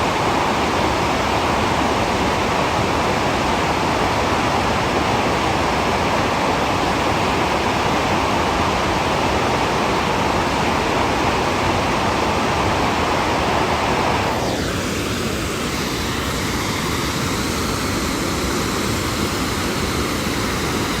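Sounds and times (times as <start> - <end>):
water rushing over a dam: 0.0 - 21.0.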